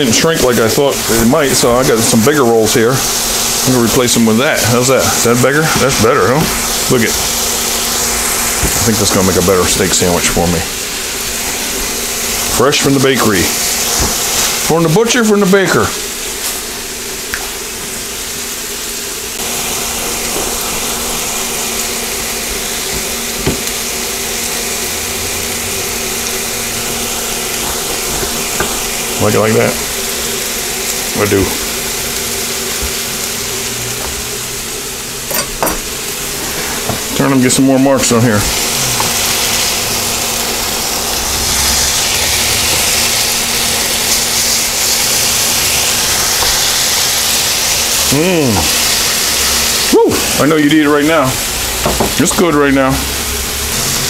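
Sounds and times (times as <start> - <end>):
cooktop hum: 0.0 - 54.0
steaks sizzling on grill: 0.0 - 54.0.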